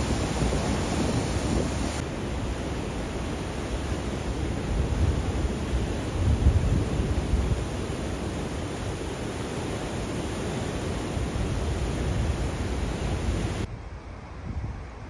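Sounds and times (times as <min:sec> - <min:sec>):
sea surf on rocky shore: 0:00.0 - 0:13.7
wind buffeting microphone: 0:00.0 - 0:15.0.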